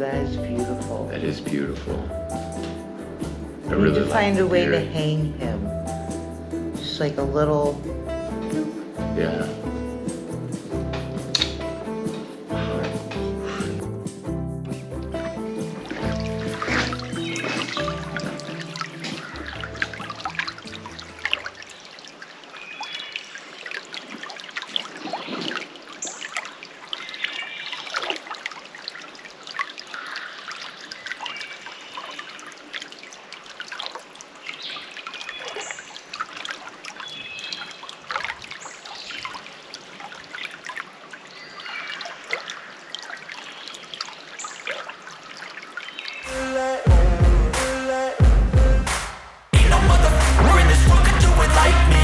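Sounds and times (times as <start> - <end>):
water trickling: 0.0 - 47.4.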